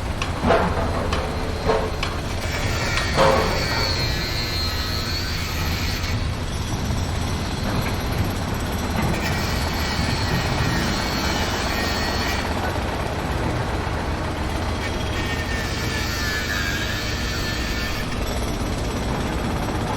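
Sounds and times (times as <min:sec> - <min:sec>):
heavy machinery engine rumble: 0:00.0 - 0:19.9.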